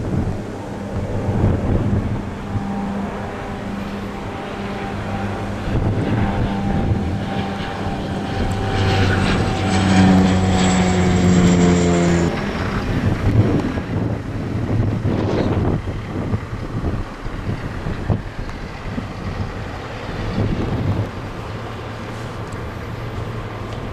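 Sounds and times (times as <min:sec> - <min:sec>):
propeller airplane droning overhead: 0:00.0 - 0:23.9.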